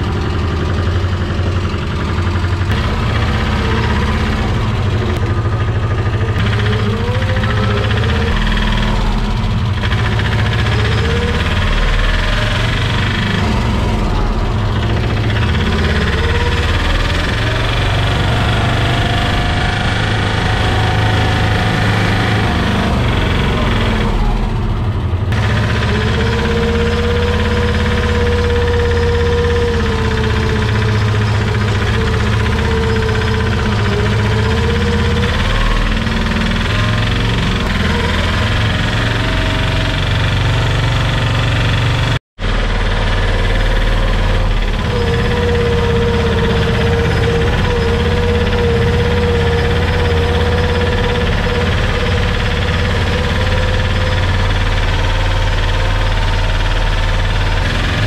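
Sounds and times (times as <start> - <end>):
single-cylinder engine knocking rumble: 0.0 - 58.0.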